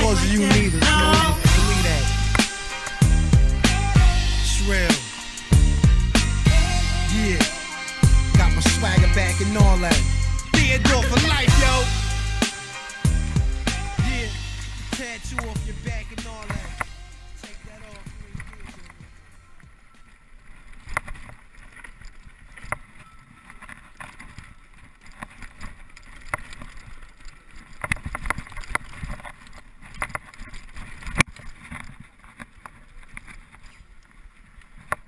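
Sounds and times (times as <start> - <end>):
bike tyres on dirt and stones: 0.0 - 35.0.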